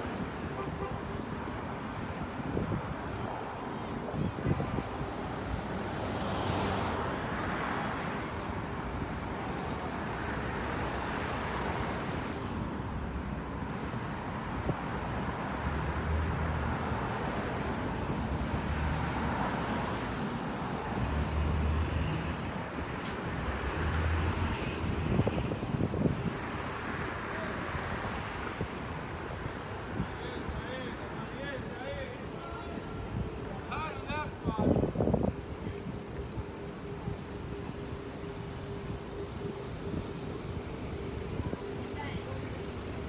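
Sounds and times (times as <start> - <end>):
city street traffic: 0.0 - 43.0.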